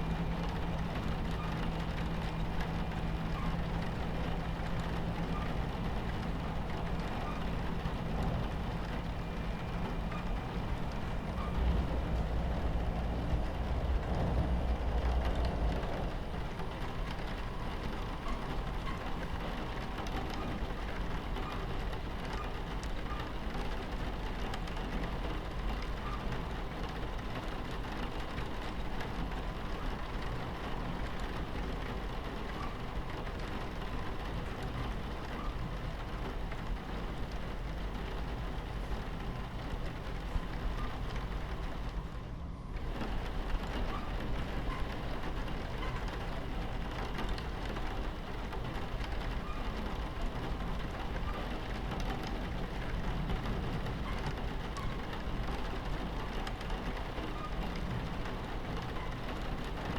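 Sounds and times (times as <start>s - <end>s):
rain on a window: 0.0s - 59.9s
train rumbling on tracks: 0.0s - 59.9s.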